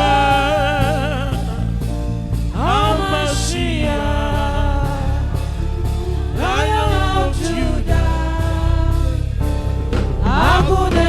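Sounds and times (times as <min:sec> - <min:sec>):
person singing with vibrato: 0:00.0 - 0:09.4, 0:10.2 - 0:11.0
instrumental backing with low bass: 0:00.0 - 0:11.0.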